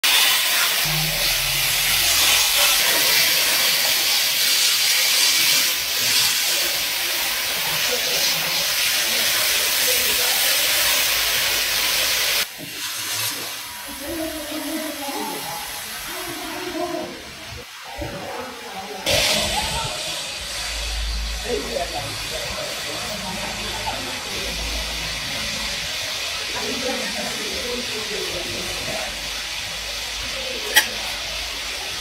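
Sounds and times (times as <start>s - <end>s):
loud steady hiss: 0.0s - 32.0s.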